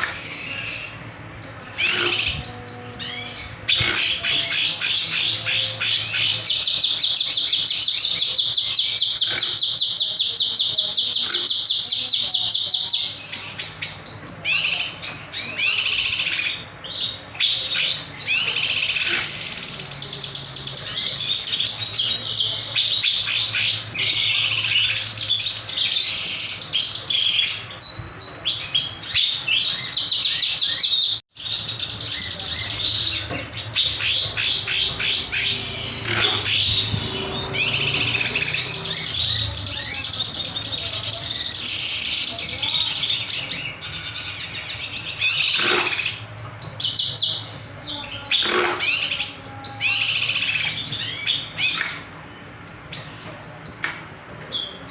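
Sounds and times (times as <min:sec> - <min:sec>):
songbird chirping song: 0:00.0 - 0:54.9.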